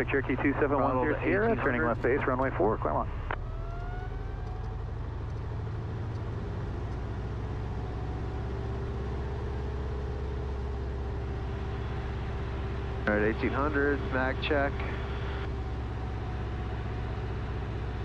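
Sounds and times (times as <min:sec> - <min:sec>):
aircraft engine run-up: 0:00.0 - 0:18.0.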